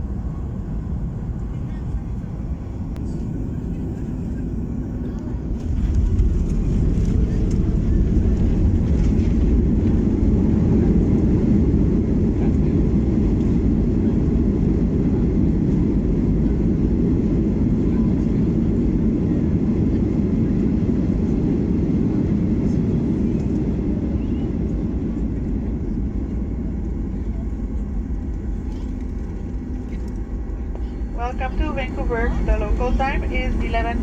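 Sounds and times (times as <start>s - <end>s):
airliner cabin roar: 0.0s - 34.0s.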